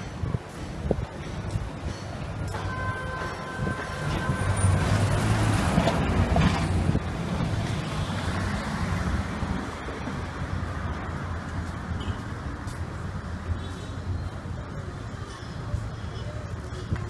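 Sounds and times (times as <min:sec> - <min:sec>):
rushing noise: 0:00.0 - 0:14.1.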